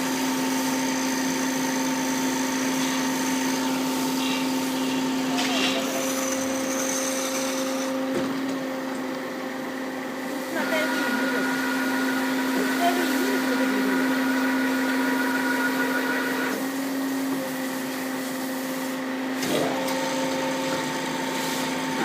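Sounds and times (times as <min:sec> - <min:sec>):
band saw motor hum: 0:00.0 - 0:17.4, 0:19.4 - 0:22.0.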